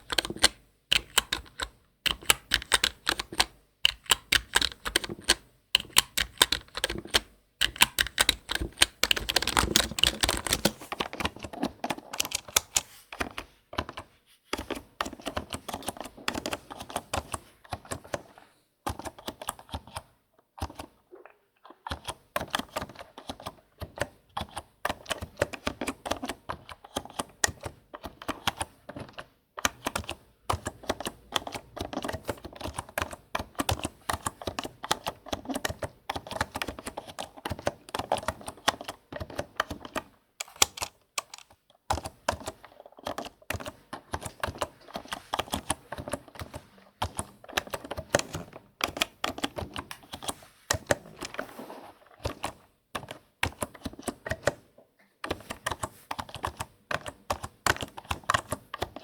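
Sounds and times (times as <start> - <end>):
typing on computer keyboard: 0.0 - 59.0.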